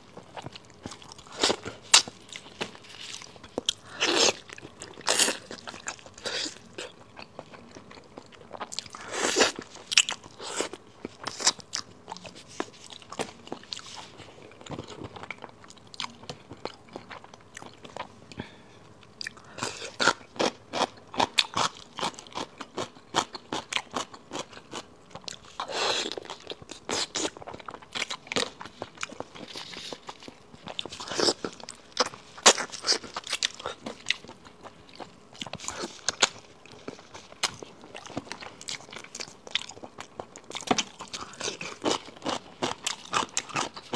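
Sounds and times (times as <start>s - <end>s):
close chewing and smacking: 0.0s - 43.9s.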